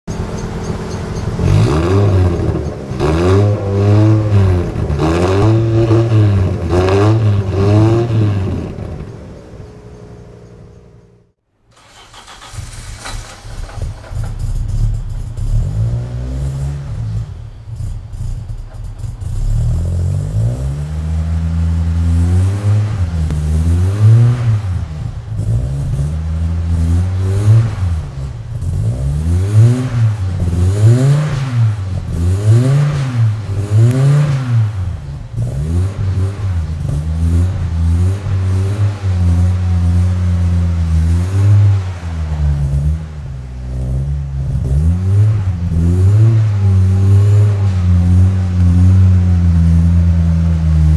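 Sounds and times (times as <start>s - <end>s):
car engine idling: 0.0s - 50.9s
car engine revving: 0.0s - 50.9s.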